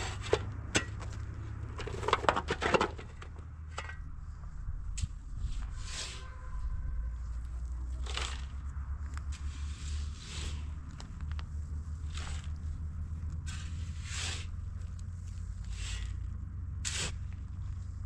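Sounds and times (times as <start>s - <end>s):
rough scraping strokes: 0.0s - 18.0s
steady low rumble: 0.0s - 18.0s.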